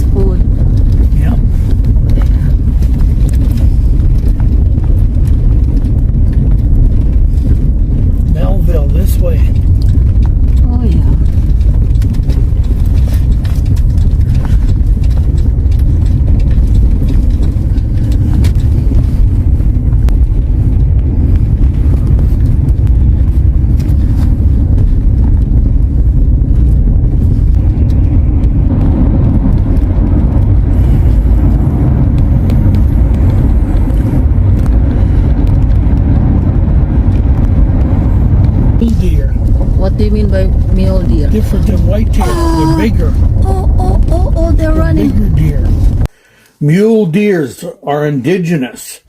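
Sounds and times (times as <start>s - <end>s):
car road and engine rumble: 0.0s - 47.6s.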